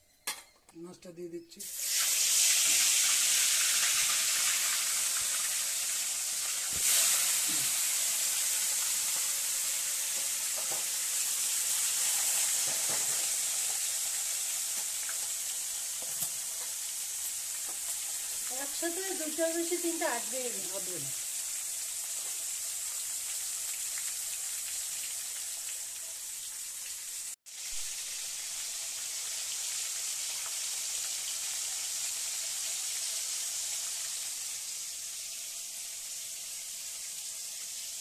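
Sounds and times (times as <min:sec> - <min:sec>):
fish sizzling in hot oil: 0:01.6 - 0:38.0.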